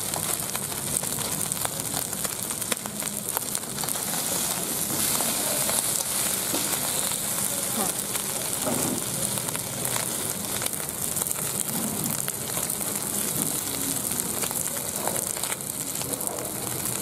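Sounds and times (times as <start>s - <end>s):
eels frying in oil: 0.0s - 17.0s.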